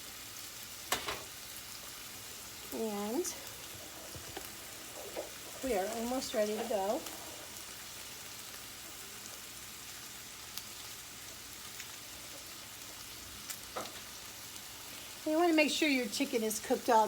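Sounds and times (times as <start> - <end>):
chicken frying in a pan: 0.0 - 17.0.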